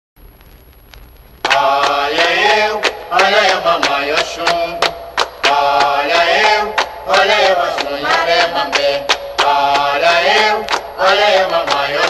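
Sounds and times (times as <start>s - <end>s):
steady percussion beat: 1.5s - 12.0s
voices singing a chant: 1.5s - 12.0s.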